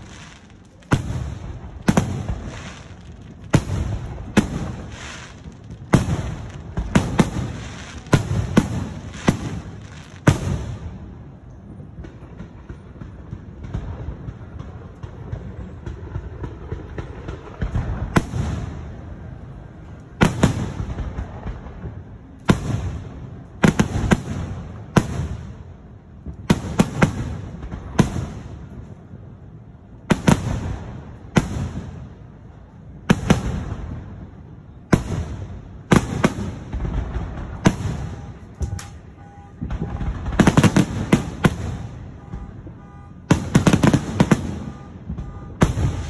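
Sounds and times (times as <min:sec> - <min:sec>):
fireworks bangs with echo: 0:00.0 - 0:46.0.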